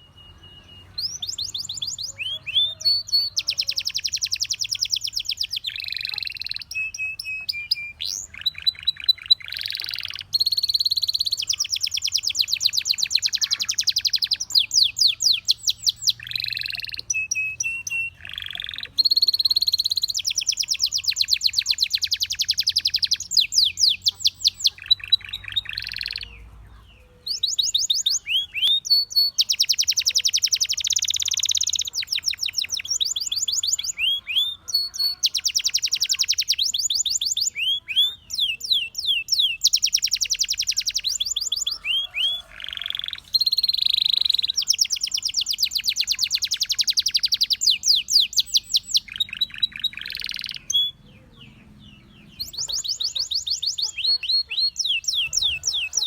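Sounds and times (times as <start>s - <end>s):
canary singing trilled rolls: 0.0s - 56.0s.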